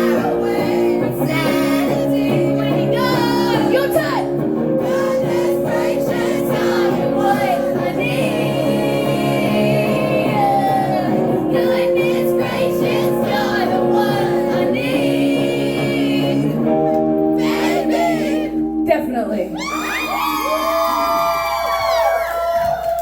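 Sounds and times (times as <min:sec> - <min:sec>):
woman singing: 0:00.0 - 0:18.5
guitar: 0:00.0 - 0:23.0.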